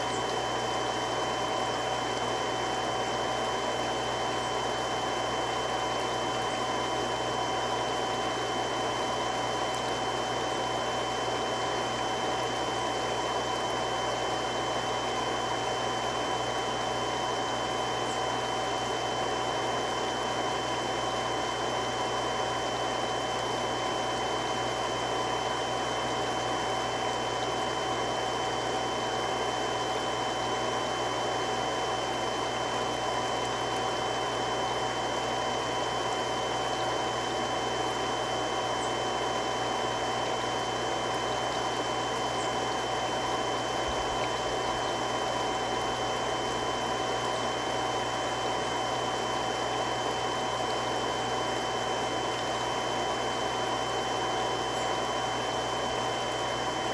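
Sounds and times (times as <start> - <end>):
water pump humming: 0.0 - 56.9.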